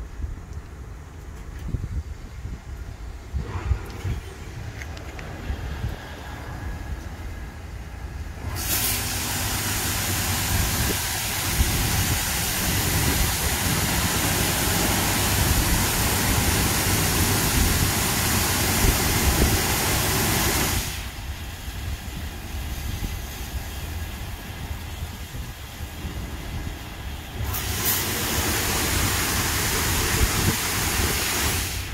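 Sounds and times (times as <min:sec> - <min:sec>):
spraying water hiss: 0:02.8 - 0:31.9.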